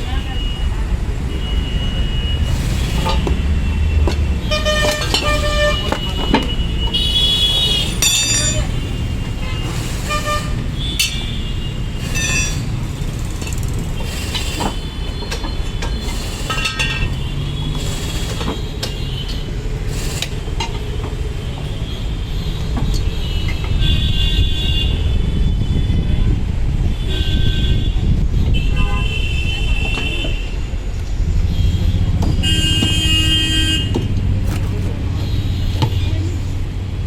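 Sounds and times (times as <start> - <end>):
vehicle horns honking: 0.0 - 36.5
traffic rumble: 0.0 - 37.0.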